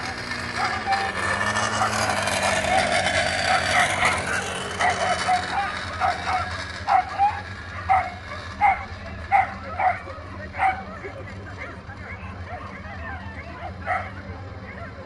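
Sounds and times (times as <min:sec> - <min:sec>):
dogs barking in high yips: 0:00.0 - 0:11.0, 0:11.7 - 0:14.2
background hubbub: 0:00.0 - 0:15.0.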